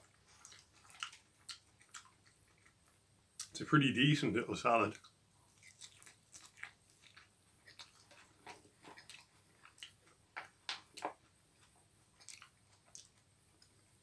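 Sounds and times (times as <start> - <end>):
person chewing food: 0.0 - 3.5, 4.9 - 14.0.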